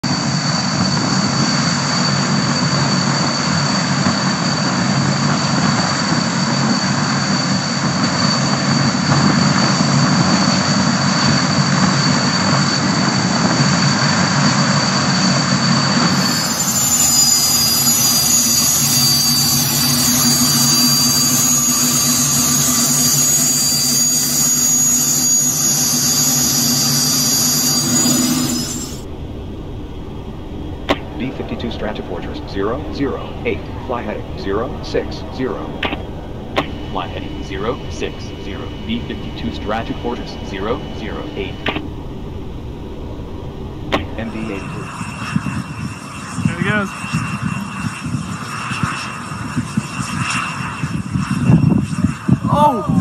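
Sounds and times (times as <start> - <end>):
aircraft engine noise inside cabin: 0.0 - 53.0
turboprop engines roaring: 0.0 - 53.0.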